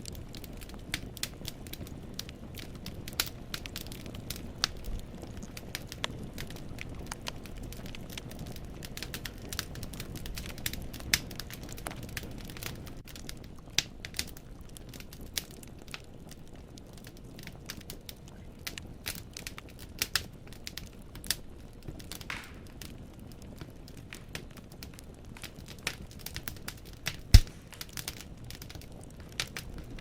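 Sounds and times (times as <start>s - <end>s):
logs crackling and popping: 0.0s - 30.0s
low rumble of flames: 0.0s - 30.0s.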